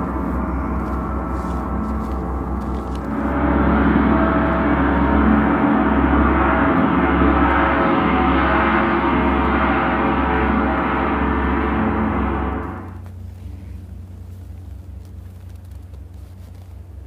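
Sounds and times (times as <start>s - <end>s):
large gongs sounding: 0.0s - 14.4s.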